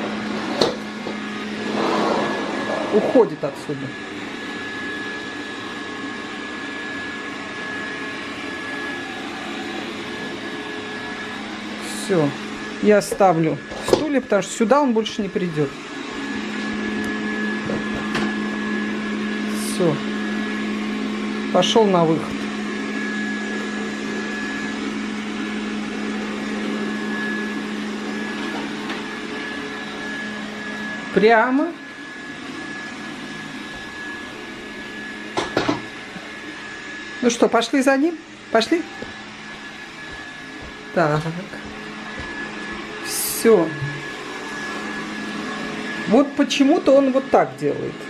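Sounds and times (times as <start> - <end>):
robot vacuum humming: 0.0 - 48.0.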